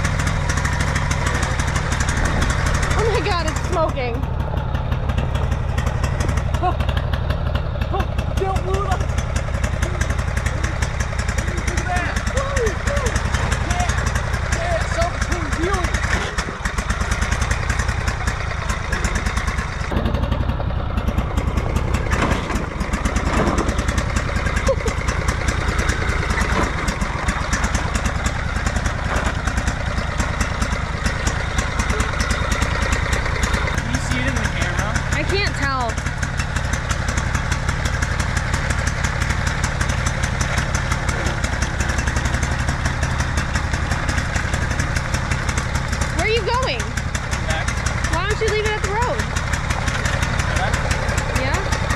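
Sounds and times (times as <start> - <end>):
lawnmower engine running: 0.0 - 51.9.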